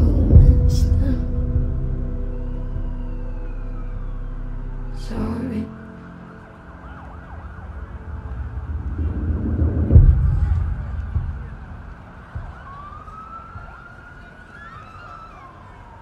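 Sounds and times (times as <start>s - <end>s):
low vehicle rumble: 0.0s - 16.0s
siren wailing: 0.0s - 16.0s.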